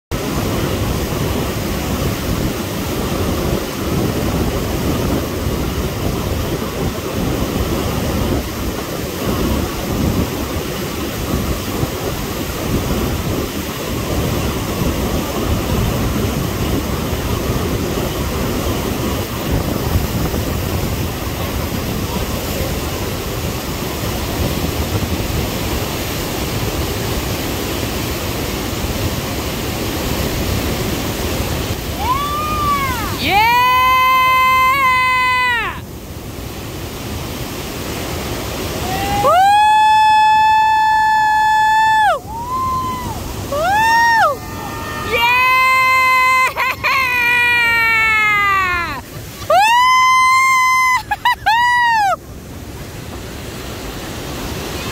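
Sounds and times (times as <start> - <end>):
whitewater rushing: 0.1 - 54.9.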